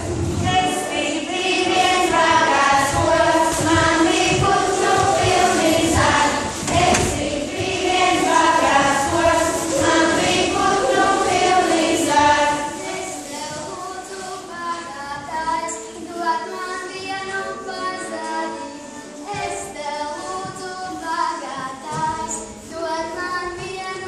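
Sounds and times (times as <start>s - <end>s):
women and girls singing together: 0.0s - 24.0s.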